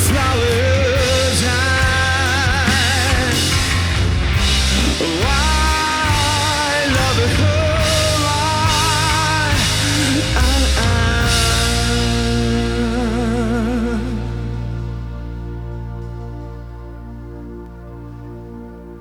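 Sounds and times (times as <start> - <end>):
lead guitar bending notes: 0.0 - 19.0
rock band playing: 0.0 - 19.0.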